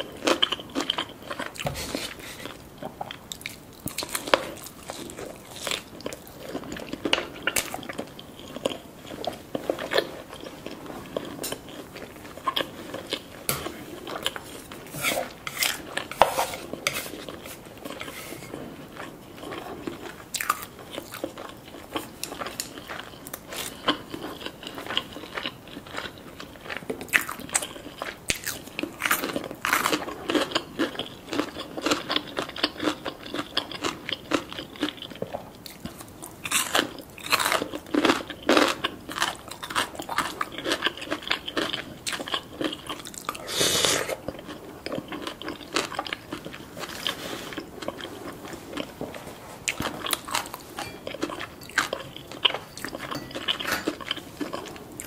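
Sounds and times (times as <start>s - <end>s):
chewing soft food: 0.0s - 55.0s.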